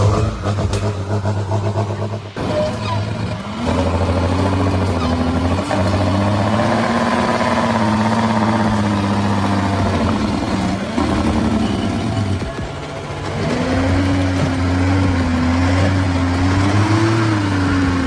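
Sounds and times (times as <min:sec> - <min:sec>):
heavy vehicle engine under load: 0:00.0 - 0:18.0.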